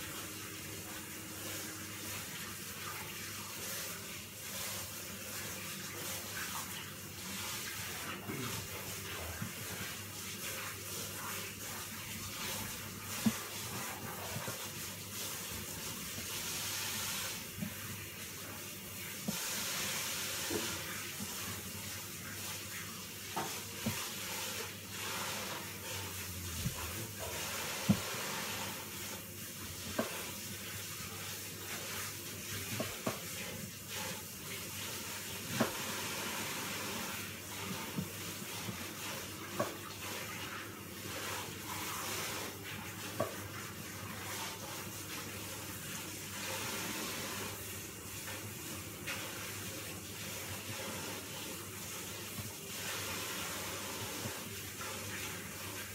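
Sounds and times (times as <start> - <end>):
hissing kitchen background: 0.0 - 55.9.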